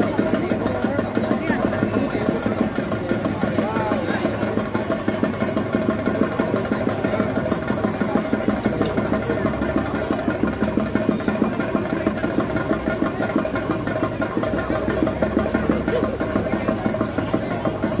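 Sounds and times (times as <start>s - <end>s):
drums in a fast roll: 0.0s - 18.0s.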